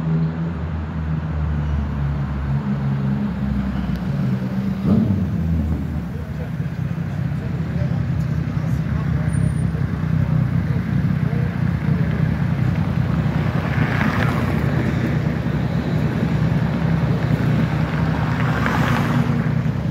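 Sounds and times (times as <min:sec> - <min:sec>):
cars driving past: 0:00.0 - 0:19.9
low traffic rumble: 0:00.0 - 0:19.9.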